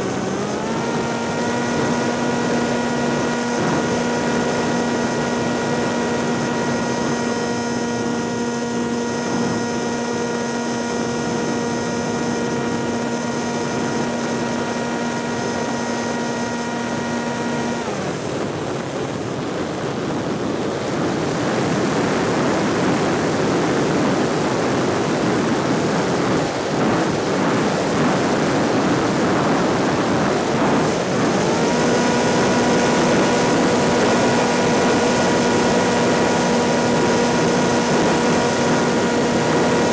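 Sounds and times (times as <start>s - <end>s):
small aircraft propeller engine: 0.0s - 39.9s.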